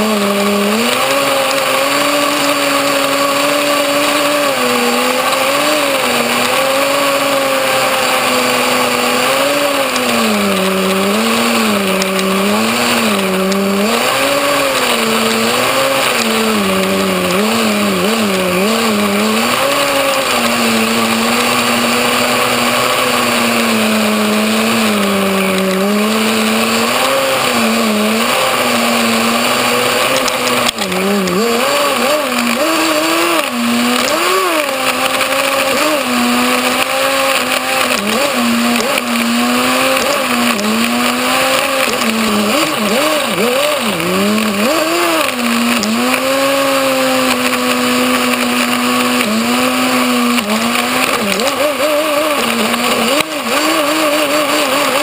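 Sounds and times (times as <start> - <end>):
small nitro engine revving: 0.0 - 55.0.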